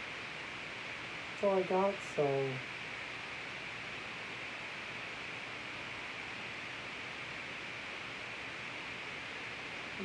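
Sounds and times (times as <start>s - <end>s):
room tone hiss: 0.0s - 10.0s.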